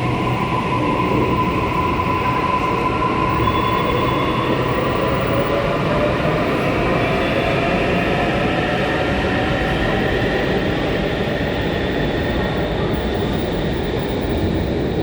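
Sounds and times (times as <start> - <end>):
electric train rumbling: 0.0 - 15.0
faint whining tones: 0.0 - 15.0.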